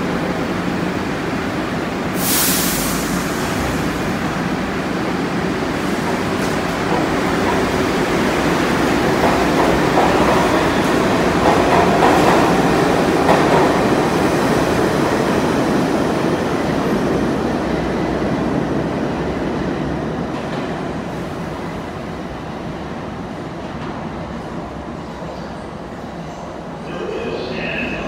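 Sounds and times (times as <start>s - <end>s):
subway train wheels clattering: 0.0s - 28.0s.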